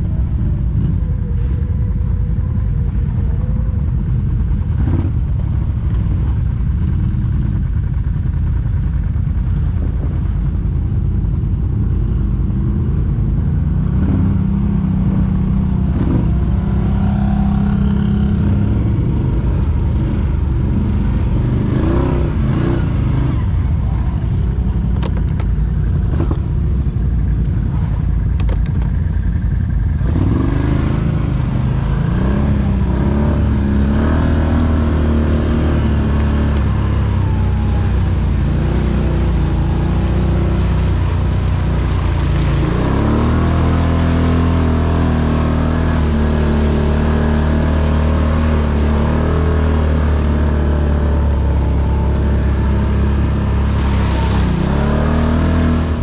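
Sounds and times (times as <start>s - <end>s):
atv engine revving: 0.0s - 11.4s, 12.1s - 56.0s.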